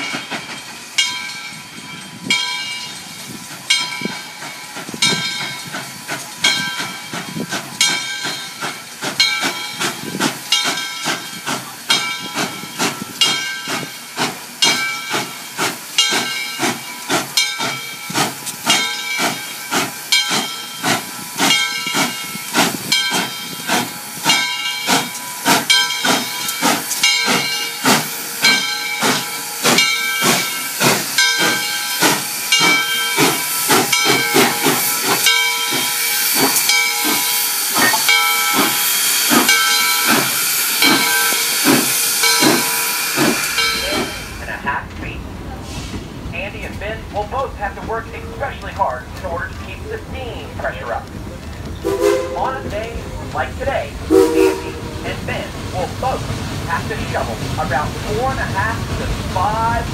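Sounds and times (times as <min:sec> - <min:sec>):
steam hiss: 0:00.0 - 0:44.8, 0:45.5 - 0:50.9, 0:51.8 - 0:59.9
steam locomotive exhaust chuffs: 0:00.0 - 0:59.9.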